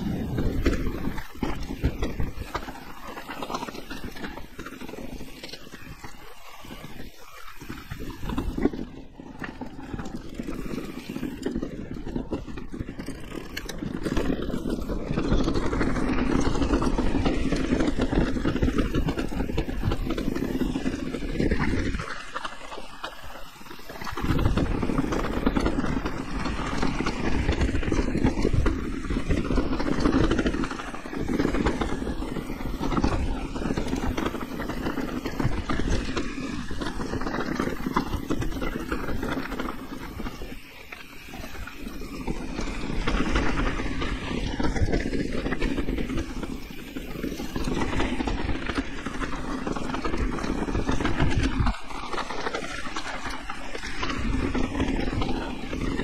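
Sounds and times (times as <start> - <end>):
bike tyres rattling on trail: 0.0 - 56.0
wind rumble on microphone: 0.0 - 56.0.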